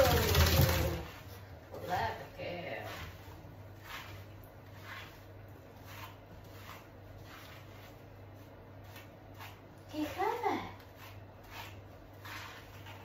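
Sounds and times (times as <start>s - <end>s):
hands squishing lather in fur: 2.5s - 13.0s.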